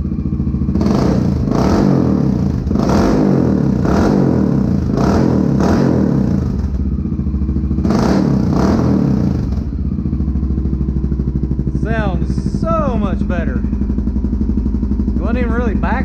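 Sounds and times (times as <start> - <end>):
motorcycle engine idling: 0.0 - 16.0
motorcycle engine throttle blips: 0.0 - 16.0.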